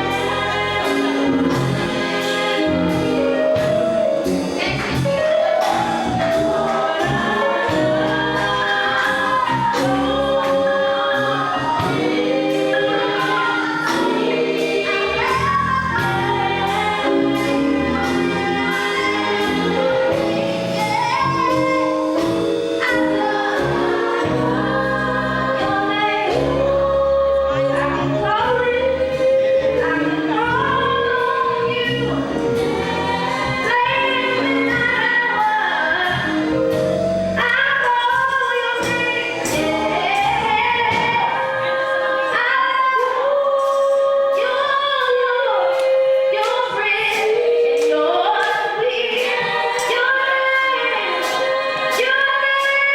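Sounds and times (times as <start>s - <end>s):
gospel choir singing: 0.0s - 52.9s
live instrumental accompaniment: 0.0s - 52.9s.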